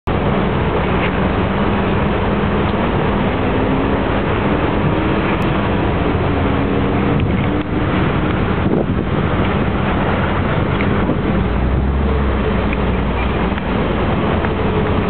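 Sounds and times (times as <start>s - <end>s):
constant rush of noise: 0.0s - 15.0s
car engine at low revs: 0.1s - 15.0s.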